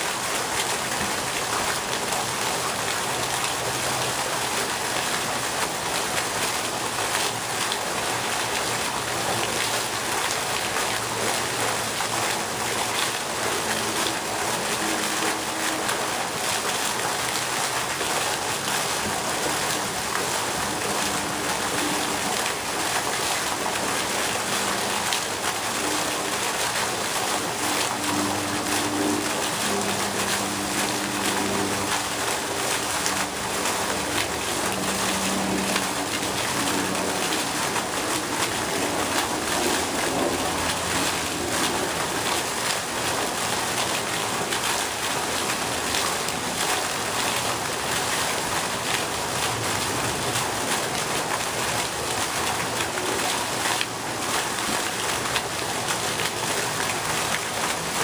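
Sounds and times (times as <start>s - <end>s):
fountain jet splashing water: 0.0s - 58.0s.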